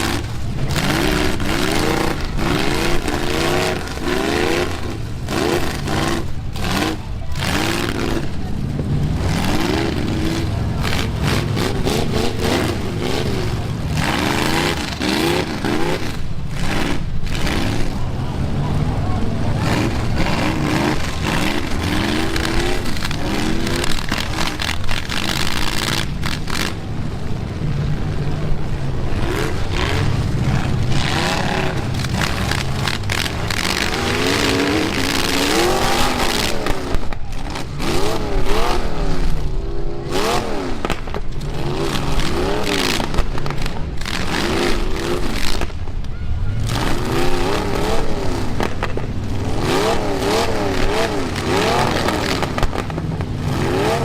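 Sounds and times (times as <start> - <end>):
truck engines revving hard: 0.0 - 54.0
vehicles crashing: 0.0 - 54.0.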